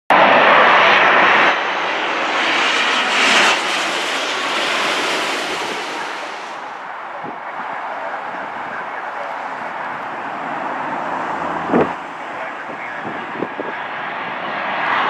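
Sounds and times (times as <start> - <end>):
jet engines roaring overhead: 0.1 - 15.0.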